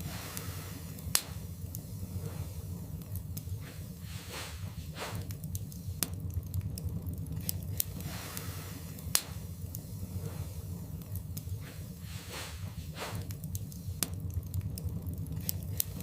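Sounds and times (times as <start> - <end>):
fire hissing: 0.0 - 16.0
wood fire crackling: 0.0 - 16.0.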